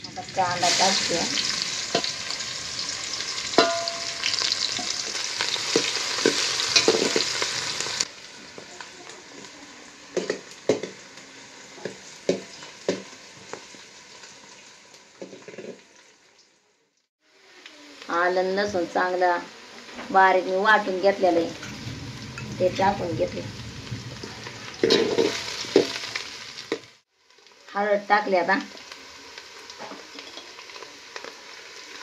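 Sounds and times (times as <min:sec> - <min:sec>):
onion sizzling in oil: 0:00.0 - 0:32.0.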